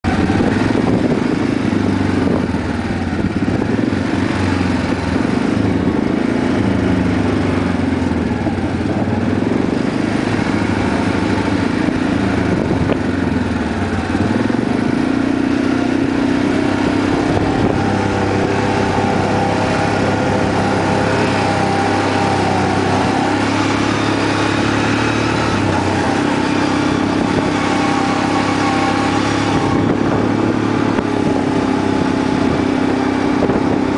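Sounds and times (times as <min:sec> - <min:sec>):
quad bike engine running: 0:00.0 - 0:33.9.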